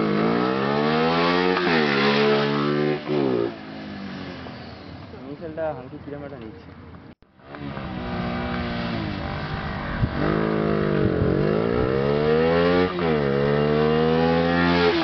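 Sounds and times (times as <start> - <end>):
motorcycle engine accelerating: 0.0 - 4.8, 7.4 - 15.0.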